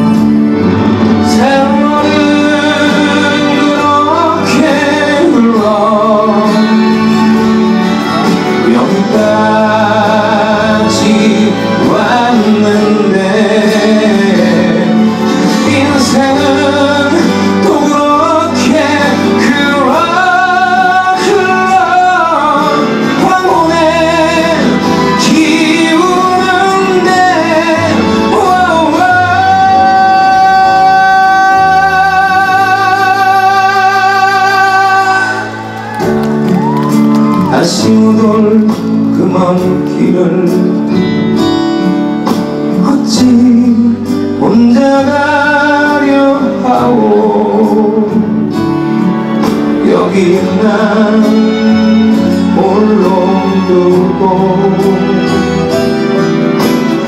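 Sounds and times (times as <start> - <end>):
acoustic guitar: 0.0 - 57.0
man singing into a microphone: 0.0 - 57.0.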